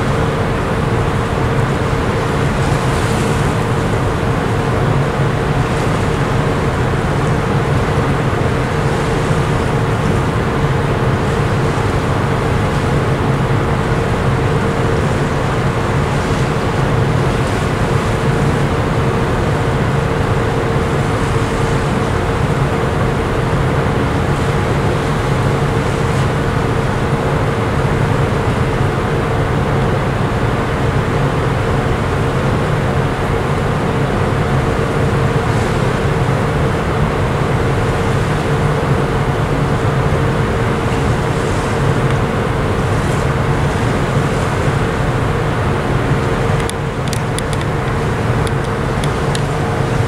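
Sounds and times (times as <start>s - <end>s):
ship engines rumbling and humming: 0.0s - 50.0s.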